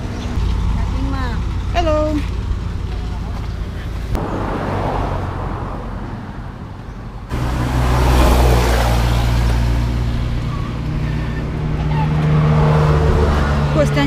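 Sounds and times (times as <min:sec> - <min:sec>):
road traffic noise: 0:00.0 - 0:14.0
vehicle engine running: 0:00.0 - 0:14.0.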